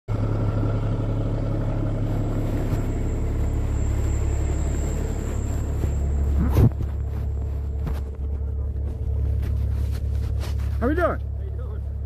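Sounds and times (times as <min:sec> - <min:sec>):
vehicle engine rumbling: 0:00.1 - 0:12.0.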